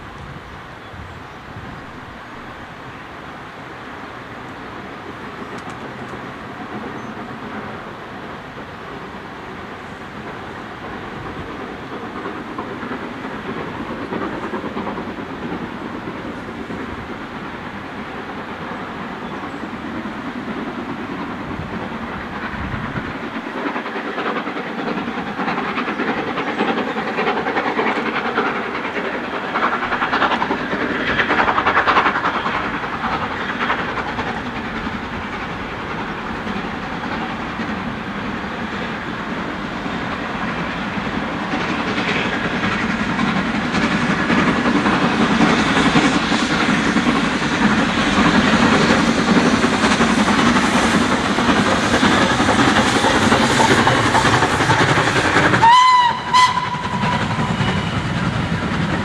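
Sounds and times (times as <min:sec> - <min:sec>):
steam locomotive exhaust beats: 0:00.0 - 0:59.0
train rumble: 0:00.0 - 0:59.0.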